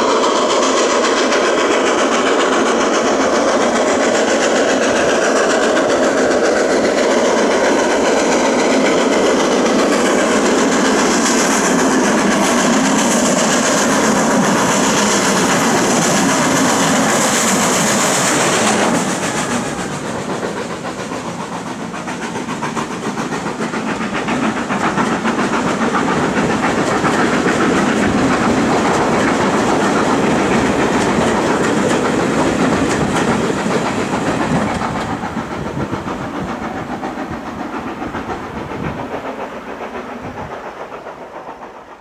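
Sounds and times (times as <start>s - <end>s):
train coaches rolling past: 0.0s - 42.0s
wheels clicking over rail joints: 0.9s - 41.0s.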